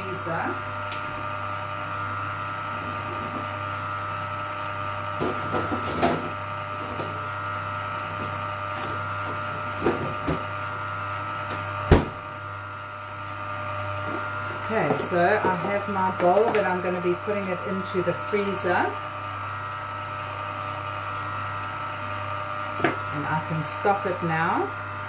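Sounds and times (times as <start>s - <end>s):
ice cream maker motor humming: 0.0s - 25.0s.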